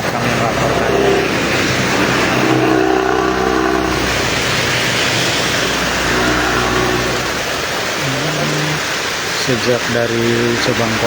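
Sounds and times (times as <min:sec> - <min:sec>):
strong wind: 0:00.0 - 0:09.6
heavy rain: 0:00.0 - 0:11.0
vehicles passing: 0:00.0 - 0:11.0.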